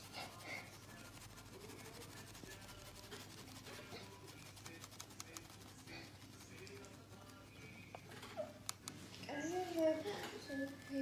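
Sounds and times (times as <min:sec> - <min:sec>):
mesh sieve scratchy ticking: 0:00.0 - 0:08.9.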